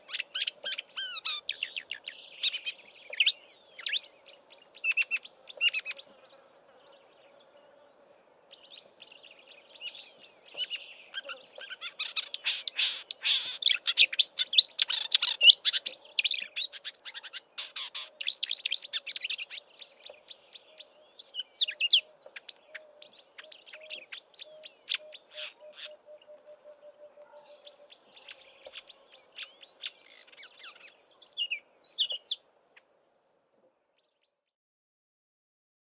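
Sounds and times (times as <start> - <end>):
warbler singing chattering song: 0.0 - 7.8, 8.5 - 32.9.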